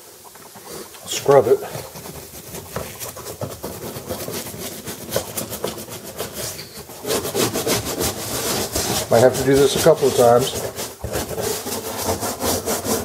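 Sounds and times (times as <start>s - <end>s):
scrub brush scrubbing plastic: 0.0s - 13.0s.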